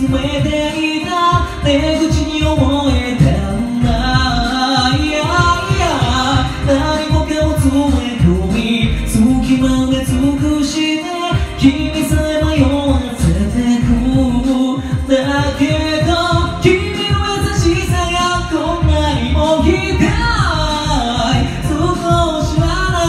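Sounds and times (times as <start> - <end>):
man singing into microphone: 0.0 - 23.0
pop backing track with beat: 0.0 - 23.0.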